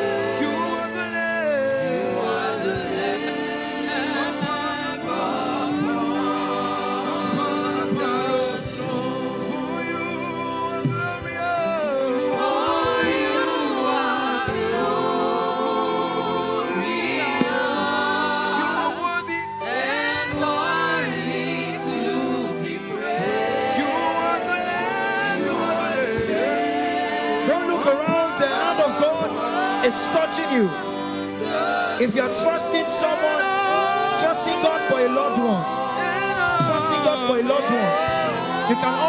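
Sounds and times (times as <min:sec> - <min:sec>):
voices singing gospel: 0:00.0 - 0:39.0.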